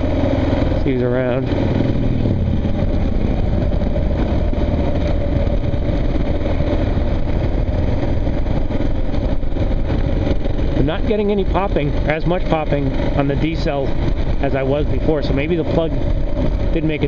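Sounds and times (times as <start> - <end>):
exhaust popping: 0.0 - 17.0
motorcycle engine running: 0.0 - 17.0.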